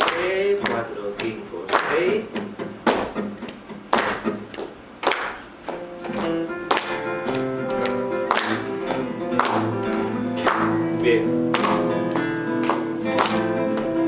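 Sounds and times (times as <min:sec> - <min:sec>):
flamenco guitar playing: 0:00.0 - 0:14.0
hand claps: 0:00.0 - 0:14.0.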